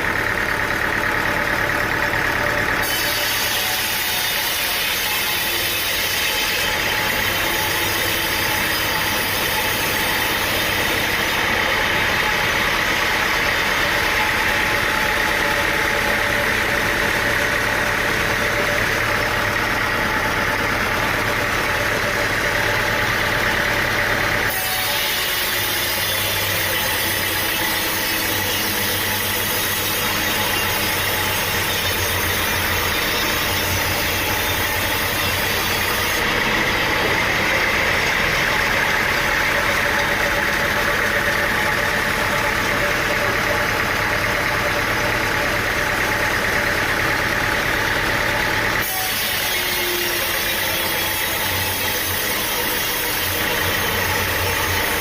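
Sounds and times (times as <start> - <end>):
machine engine running: 0.0 - 55.0.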